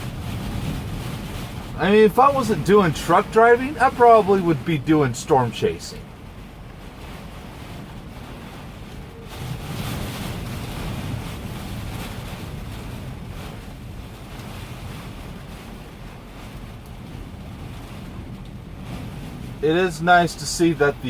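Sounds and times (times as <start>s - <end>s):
storm wind gusting: 0.0s - 21.0s.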